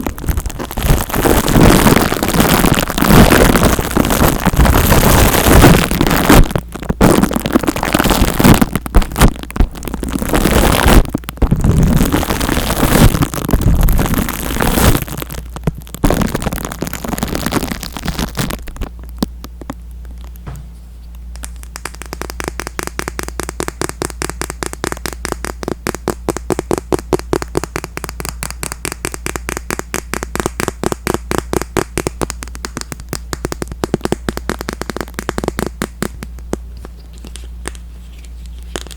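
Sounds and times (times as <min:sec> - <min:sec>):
crackling and rustling on microphone: 0:00.0 - 0:38.9.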